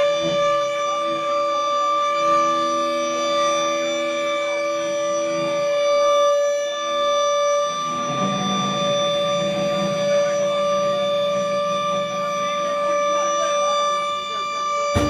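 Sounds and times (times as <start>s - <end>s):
amplified band drone: 0.0s - 15.0s
lower held note: 0.0s - 15.0s.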